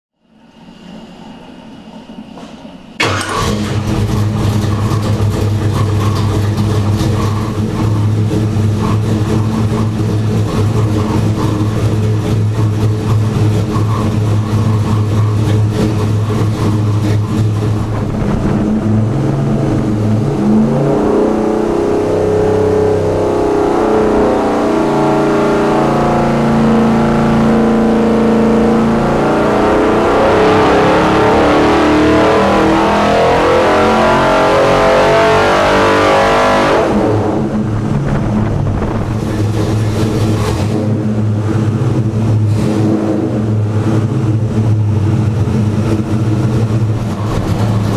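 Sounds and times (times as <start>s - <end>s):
engine idling and revving: 2.2s - 47.9s.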